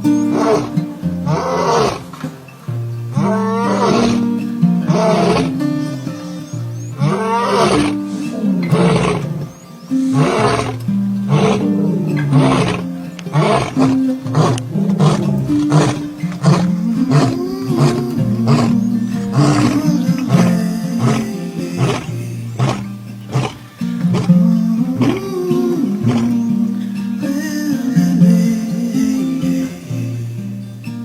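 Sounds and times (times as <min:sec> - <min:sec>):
background music low notes: 0:00.0 - 0:31.0
lion roaring: 0:00.2 - 0:02.2, 0:03.1 - 0:26.7.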